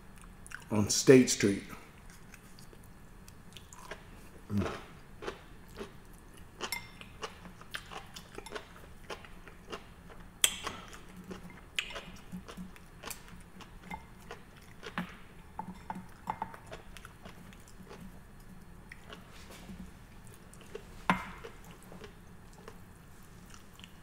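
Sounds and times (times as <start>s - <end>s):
person chewing: 0.1s - 0.7s, 1.9s - 24.0s.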